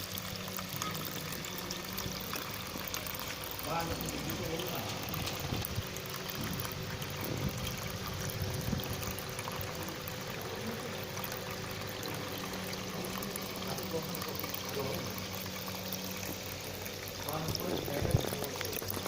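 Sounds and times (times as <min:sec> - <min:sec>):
faint steady hum: 0:00.0 - 0:19.0
water pouring and trickling: 0:00.0 - 0:19.0.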